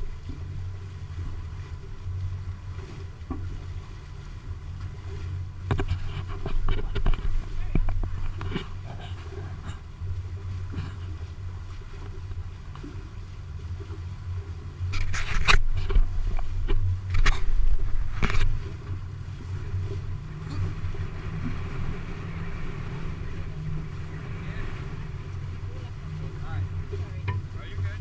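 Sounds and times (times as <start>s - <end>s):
boat engine rumble: 0.0s - 28.0s.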